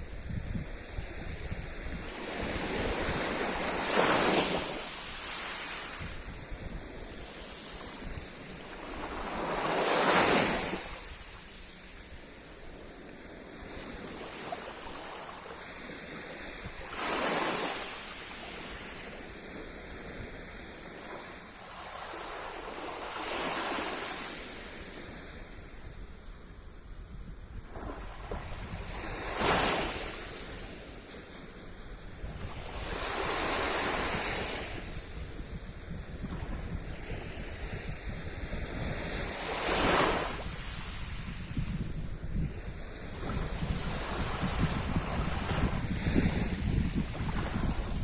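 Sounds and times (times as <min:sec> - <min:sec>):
waves breaking: 0:01.6 - 0:25.4, 0:27.6 - 0:48.0.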